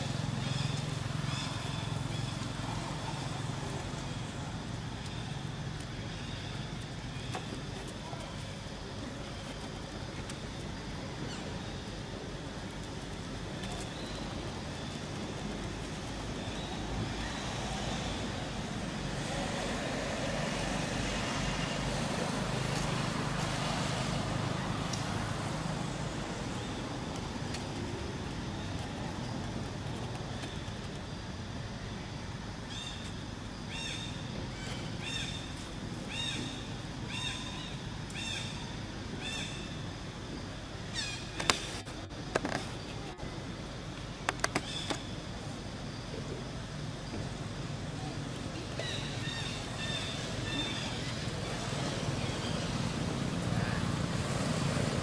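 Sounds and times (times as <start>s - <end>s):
passing road traffic: 0.0s - 55.0s.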